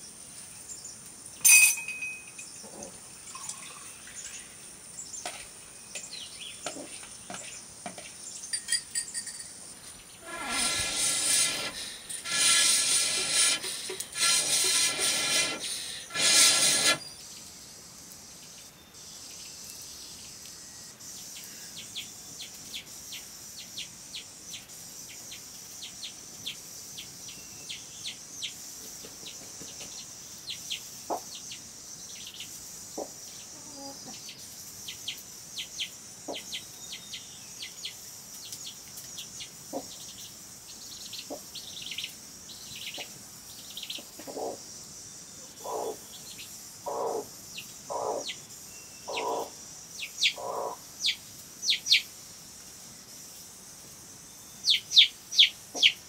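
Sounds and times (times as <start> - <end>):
songbirds chirping: 0.0 - 12.2, 16.9 - 56.0
high insect hum: 0.0 - 56.0.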